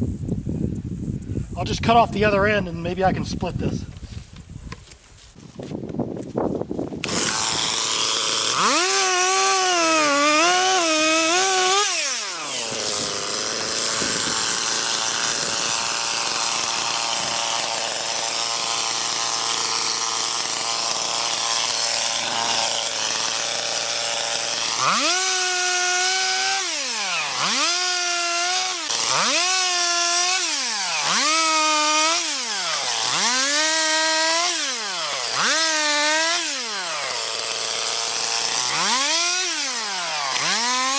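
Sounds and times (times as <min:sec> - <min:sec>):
chainsaw revving and cutting log: 0:07.0 - 0:40.9.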